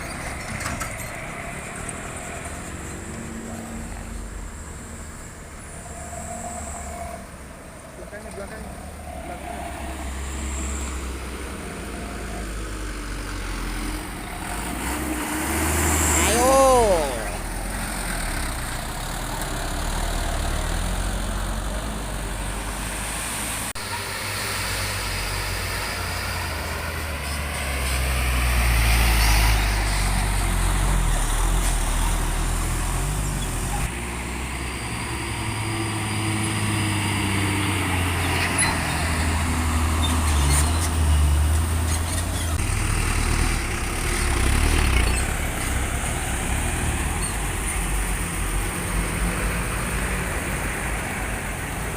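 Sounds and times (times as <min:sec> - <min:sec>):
trucks passing with low rumble: 0:00.0 - 0:51.9.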